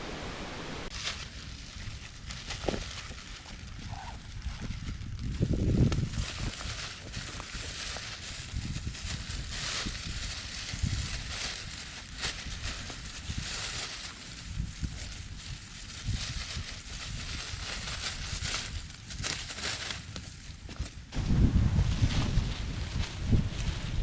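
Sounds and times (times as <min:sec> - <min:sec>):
wind gusting through trees: 0:00.0 - 0:02.4, 0:03.2 - 0:19.4, 0:20.4 - 0:24.0
wind rumble on microphone: 0:00.0 - 0:19.6, 0:20.3 - 0:24.0.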